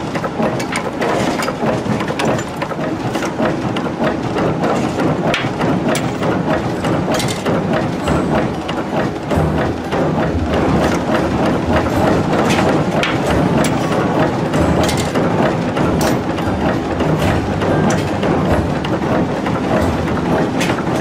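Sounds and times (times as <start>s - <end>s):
power hammer striking metal: 0.0s - 3.6s, 4.7s - 21.0s.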